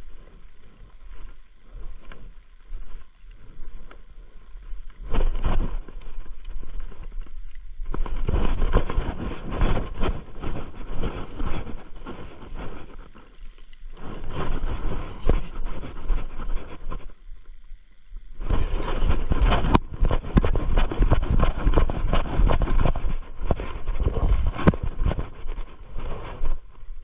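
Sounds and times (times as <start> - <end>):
clothing and hands rubbing microphone: 0.0 - 17.2, 18.4 - 27.0.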